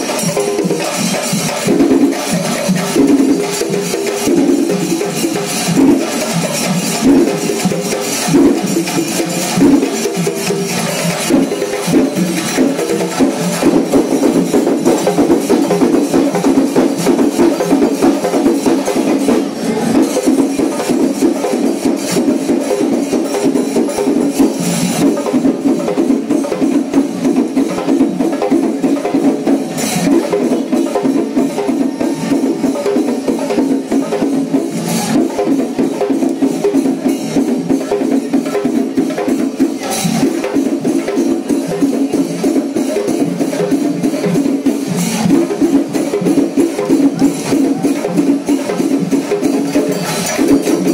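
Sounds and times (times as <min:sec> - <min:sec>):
cymbals: 0:00.0 - 0:50.9
drums in fast dense rhythm: 0:00.0 - 0:50.9.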